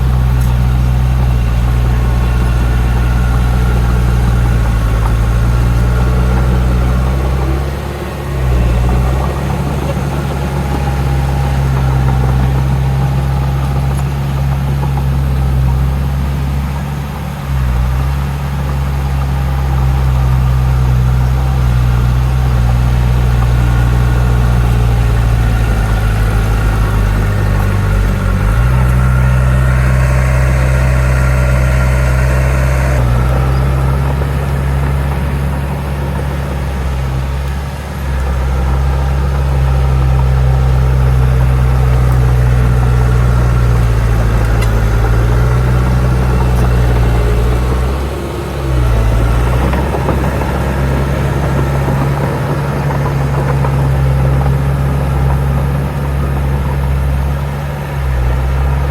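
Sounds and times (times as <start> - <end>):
heavy machinery diesel drone: 0.0 - 58.9
higher machine whine: 0.0 - 58.9.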